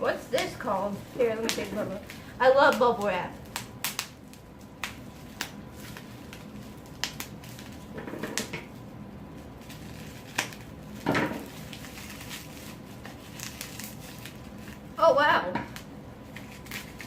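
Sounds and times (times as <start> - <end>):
bubble wrap popping: 0.0 - 15.0, 15.7 - 17.0
plastic rustling: 0.0 - 15.1, 15.7 - 17.0.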